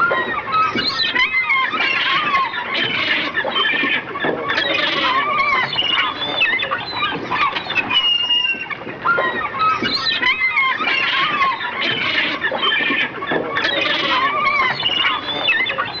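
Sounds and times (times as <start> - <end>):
flock of birds calling: 0.0 - 16.0.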